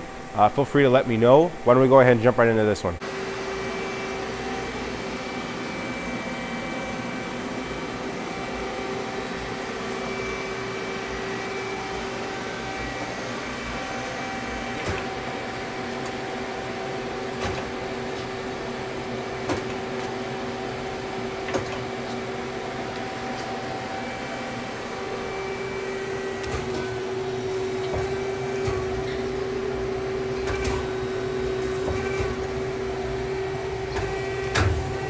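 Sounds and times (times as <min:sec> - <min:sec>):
lathe mechanical hum: 0:00.0 - 0:35.0.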